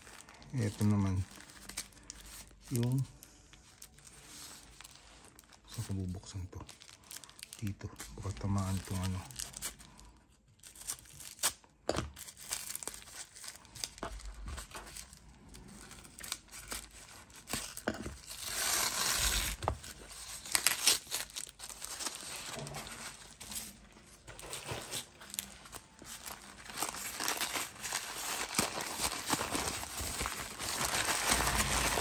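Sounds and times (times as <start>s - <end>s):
plastic tearing: 0.0s - 32.0s
plastic wrapping crumpling: 0.0s - 32.0s.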